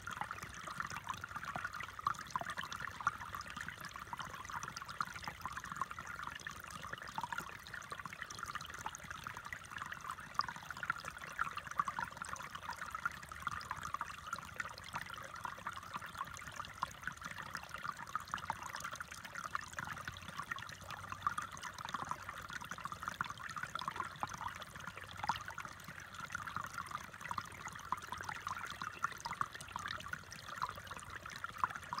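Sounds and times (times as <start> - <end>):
stream trickling over stones: 0.0 - 32.0.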